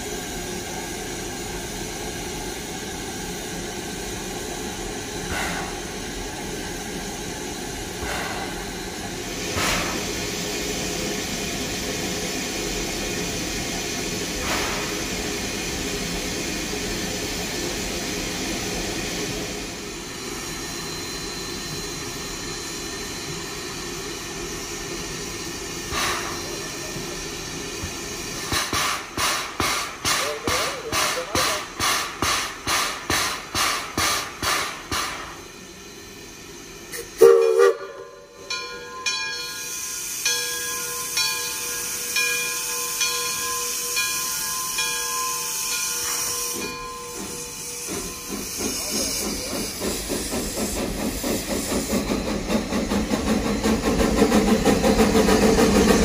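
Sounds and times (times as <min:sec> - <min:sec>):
steam venting hiss: 0:00.0 - 0:38.4, 0:39.6 - 0:56.0
steam locomotive puffs: 0:00.0 - 0:38.5, 0:39.6 - 0:56.0.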